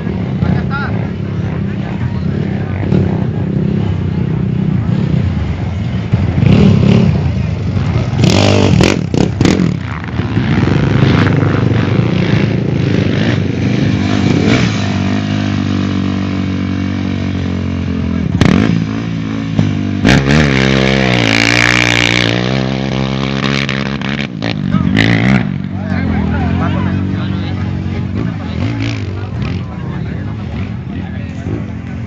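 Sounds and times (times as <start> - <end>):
motorcycle engines revving: 0.0 - 32.0.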